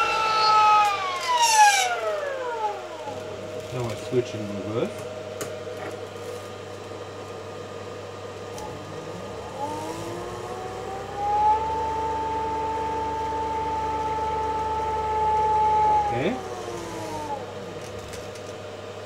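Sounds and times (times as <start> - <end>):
cooling fans humming: 0.0 - 19.0
electric motor whine: 0.0 - 19.0.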